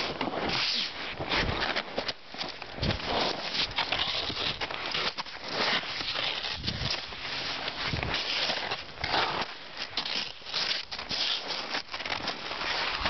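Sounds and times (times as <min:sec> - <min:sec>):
crackly crunches: 0:00.0 - 0:13.0
skis scraping over snow: 0:00.0 - 0:13.0.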